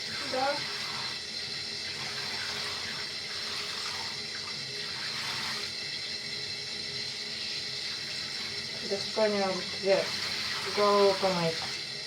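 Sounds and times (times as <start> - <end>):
tap water running into bathtub: 0.0 - 12.0.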